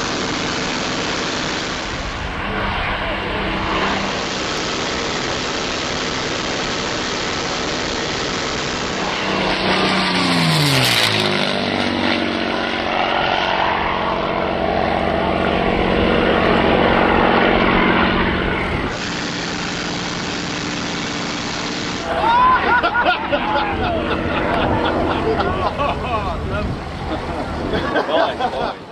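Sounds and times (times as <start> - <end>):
propeller plane engine passing: 0.0 - 28.9.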